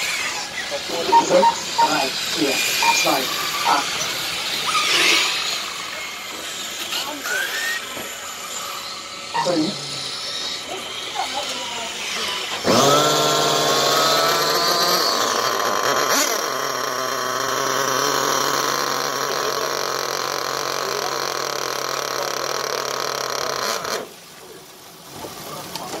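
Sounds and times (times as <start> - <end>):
motor running: 0.0 - 24.8.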